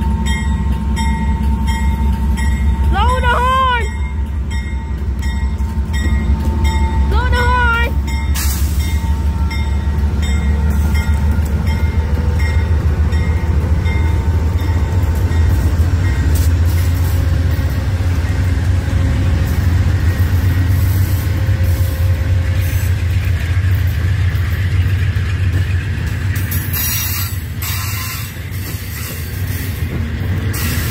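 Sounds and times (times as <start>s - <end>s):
train rumbling past: 0.0s - 30.9s.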